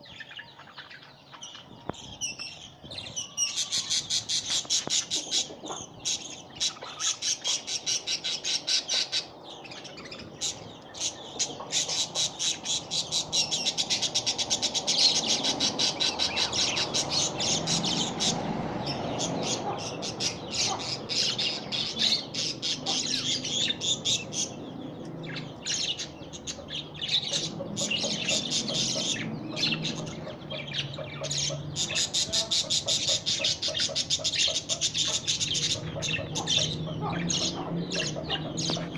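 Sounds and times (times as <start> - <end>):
budgerigar chicks begging calls: 0.0 - 38.9.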